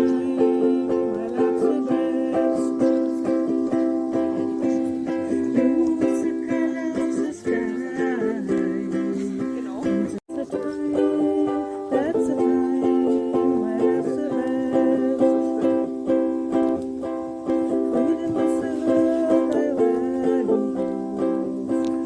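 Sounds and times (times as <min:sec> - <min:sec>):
live acoustic music: 0:00.0 - 0:22.0.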